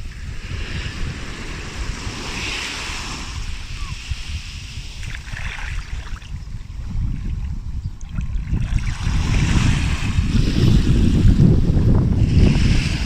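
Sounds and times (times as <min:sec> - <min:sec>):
waves washing onto sand: 0:00.0 - 0:07.0, 0:08.0 - 0:13.0
wind buffeting microphone: 0:00.0 - 0:13.0.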